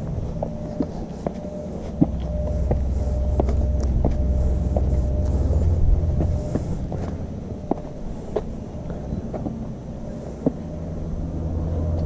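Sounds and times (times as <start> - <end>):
footsteps on rocky trail: 0.0 - 10.8
low rumble: 0.0 - 12.0.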